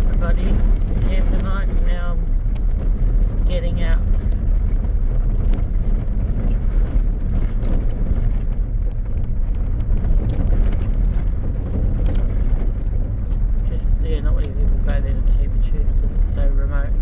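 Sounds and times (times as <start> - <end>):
small knocks and rattles: 0.0 - 13.7
vehicle engine and tyres rumbling: 0.0 - 17.0.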